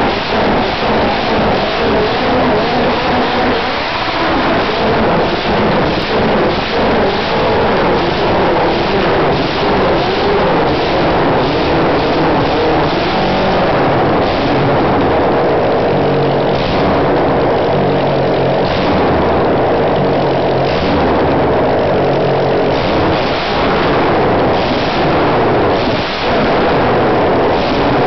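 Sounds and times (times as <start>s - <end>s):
motorcycle engine throttle blips: 0.0s - 28.0s.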